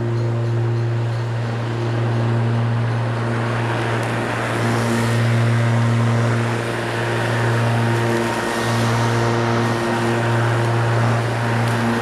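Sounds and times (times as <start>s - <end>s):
lawnmower cutting grass: 1.5s - 12.0s.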